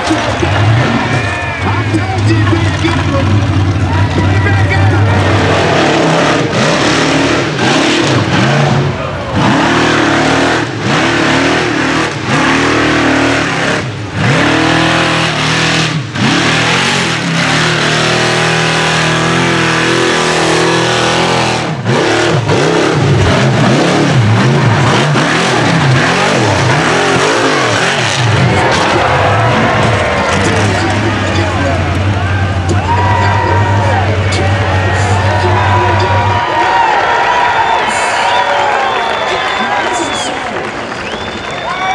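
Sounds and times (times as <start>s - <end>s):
buggy engine revving: 0.0s - 41.9s.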